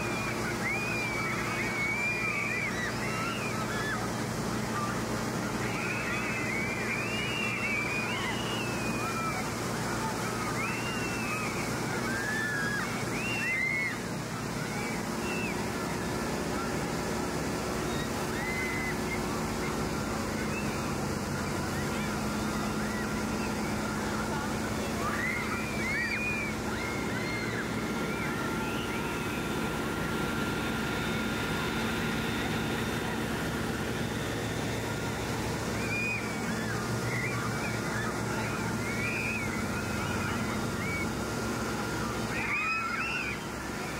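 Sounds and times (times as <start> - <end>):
children shrieking: 0.0 - 43.9
fire hose spraying water: 0.0 - 43.9
pump engine running: 0.0 - 43.9.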